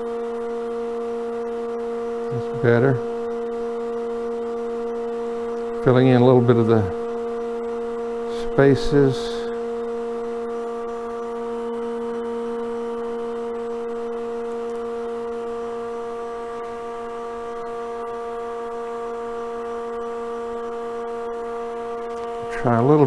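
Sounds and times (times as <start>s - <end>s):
electric motor hum: 0.0s - 23.0s.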